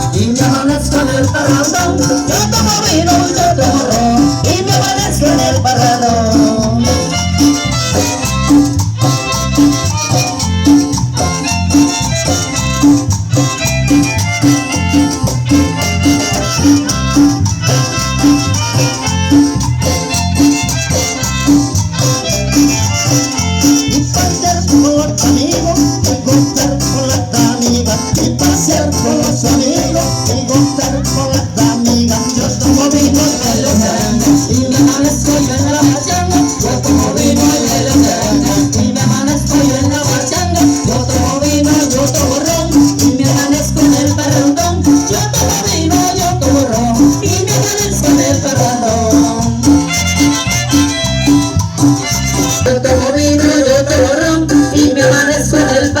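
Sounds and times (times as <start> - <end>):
latin dance band playing: 0.0 - 56.0
rattle percussion: 0.0 - 56.0.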